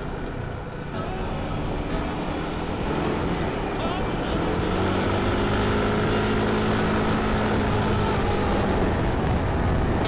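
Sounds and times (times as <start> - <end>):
faint engine drone: 0.0 - 10.0
scooter engine running: 0.0 - 10.0
wind and road noise: 0.0 - 10.0.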